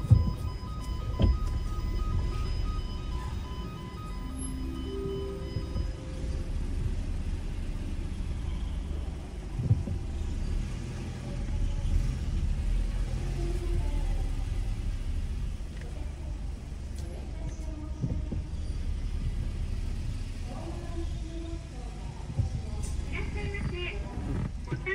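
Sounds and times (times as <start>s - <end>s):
car rumbling from inside: 0.0s - 24.9s.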